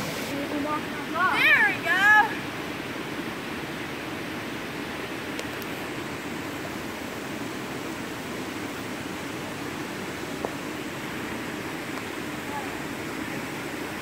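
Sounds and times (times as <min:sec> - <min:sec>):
river and waterfall rushing: 0:00.0 - 0:14.0.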